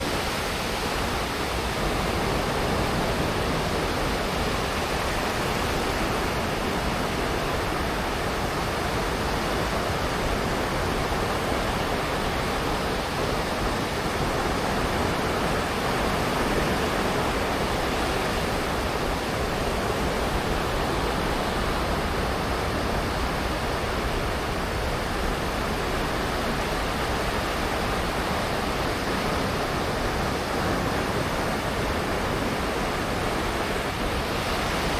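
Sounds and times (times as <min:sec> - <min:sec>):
sea waves washing onto beach: 0:00.0 - 0:34.9.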